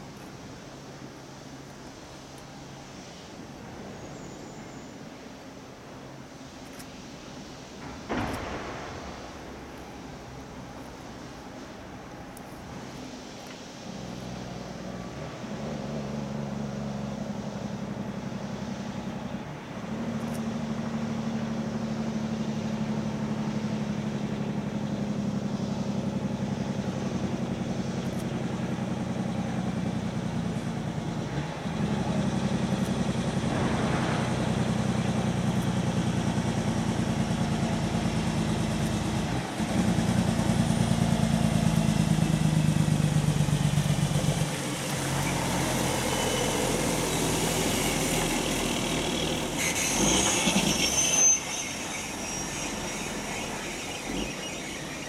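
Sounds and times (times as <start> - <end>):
truck diesel engine under load: 0.0 - 4.6, 7.2 - 55.0.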